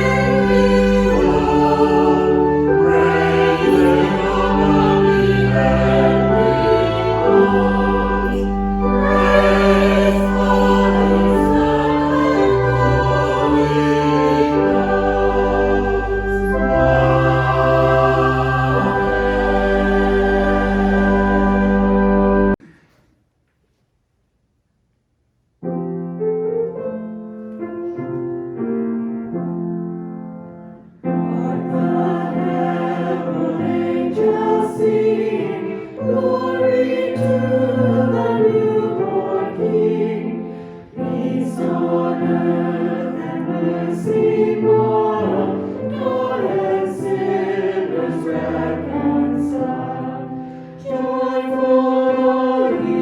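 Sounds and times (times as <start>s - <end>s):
choir singing: 0.0s - 22.6s, 31.0s - 53.0s
piano playing: 0.0s - 22.6s, 25.6s - 53.0s.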